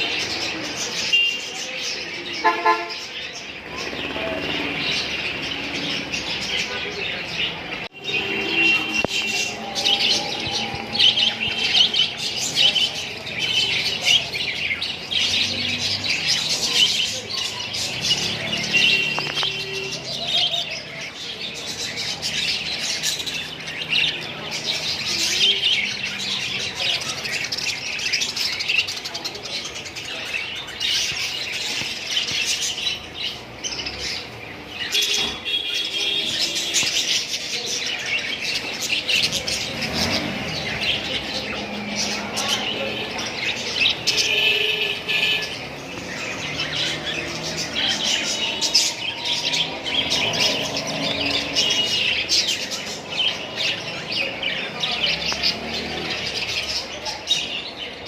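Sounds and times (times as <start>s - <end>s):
lovebirds chirping: 0.0s - 58.0s.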